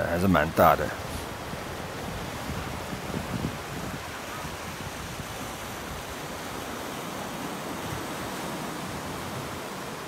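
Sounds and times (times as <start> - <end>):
surf washing against rocks: 0.0 - 10.0.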